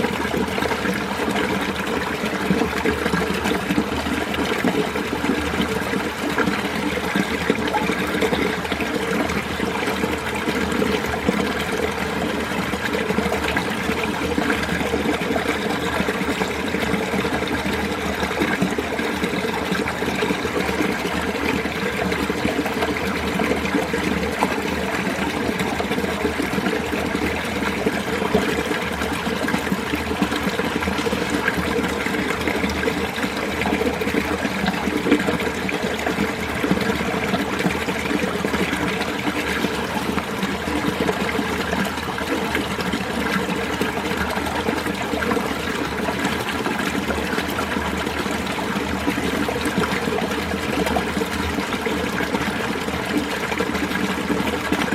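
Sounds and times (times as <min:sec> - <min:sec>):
stream flowing water: 0:00.0 - 0:54.9.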